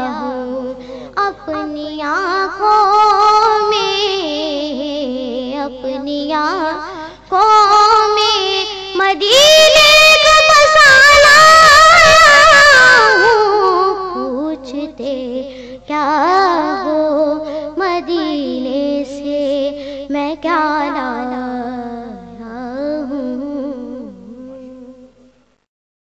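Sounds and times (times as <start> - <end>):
boy singing: 0.0 - 25.3.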